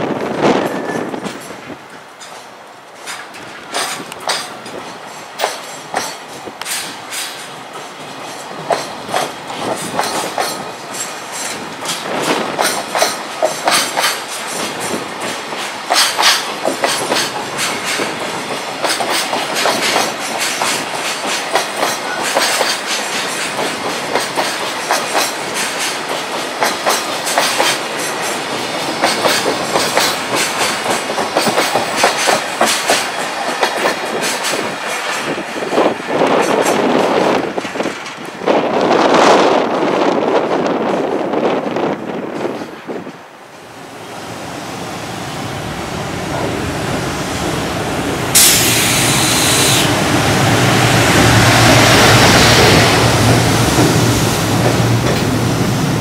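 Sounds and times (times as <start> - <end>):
train wheels clacking over rail joints: 0.2 - 39.0, 48.3 - 56.0.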